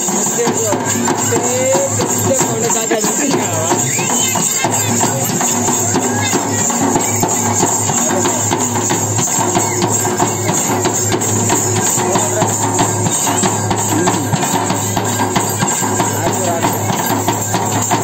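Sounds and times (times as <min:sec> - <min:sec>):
frame drums beating: 0:00.0 - 0:18.0
jingling rattle: 0:00.0 - 0:18.0.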